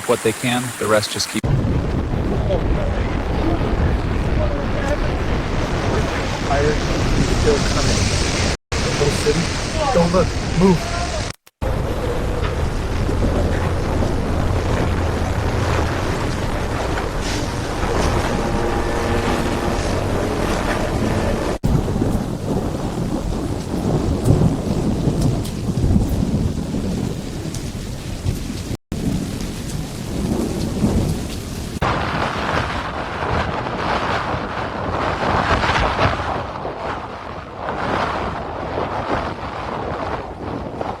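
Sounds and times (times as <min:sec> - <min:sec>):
heavy rain: 0:00.0 - 0:41.0
low rumbling storm roar: 0:01.4 - 0:41.0.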